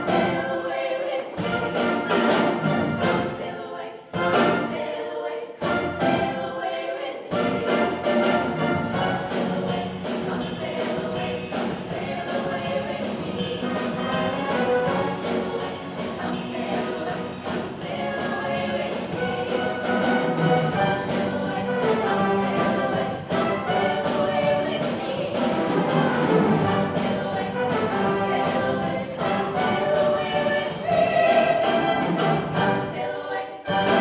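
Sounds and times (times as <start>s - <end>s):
choir singing: 0.0s - 34.0s
instrumental accompaniment: 0.0s - 34.0s.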